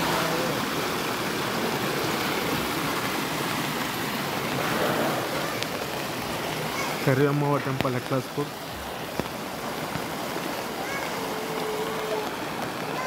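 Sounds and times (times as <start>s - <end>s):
rushing flood water: 0.0s - 13.0s.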